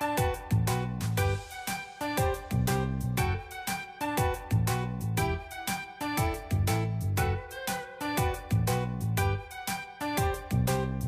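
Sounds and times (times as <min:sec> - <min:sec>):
upbeat music with plucked notes: 0:00.0 - 0:11.0.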